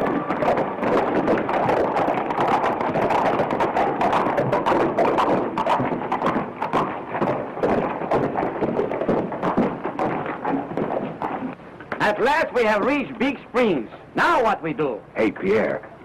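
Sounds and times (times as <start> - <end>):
horse hooves clip-clopping: 0.0 - 14.5.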